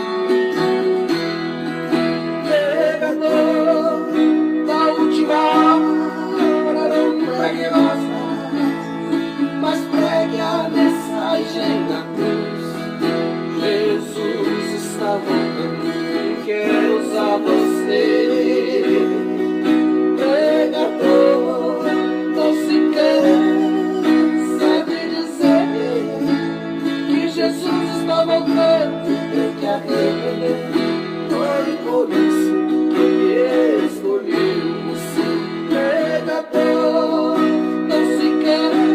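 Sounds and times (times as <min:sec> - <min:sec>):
guitar playing melody over chords: 0:00.0 - 0:38.9.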